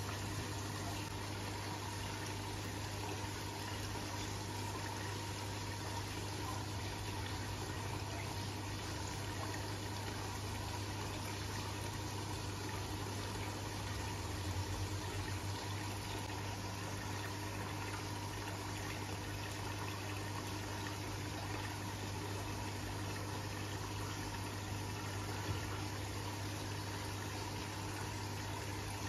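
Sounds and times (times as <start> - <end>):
filter electric hum: 0.0 - 29.0.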